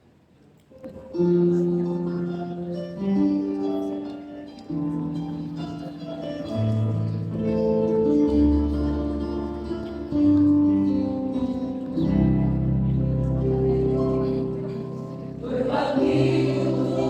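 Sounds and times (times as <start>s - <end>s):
long held instrumental chords: 0.9s - 17.0s.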